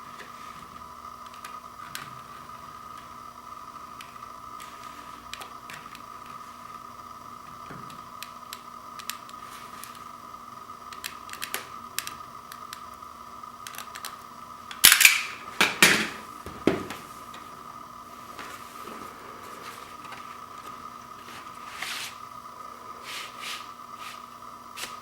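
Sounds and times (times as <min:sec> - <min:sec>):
faint high hum: 0:00.0 - 0:25.0.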